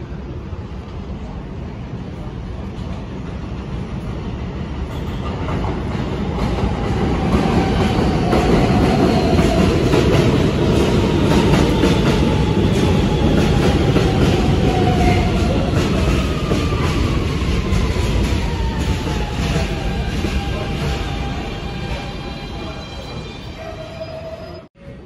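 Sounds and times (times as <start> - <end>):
subway train rumble: 0.0 - 25.0.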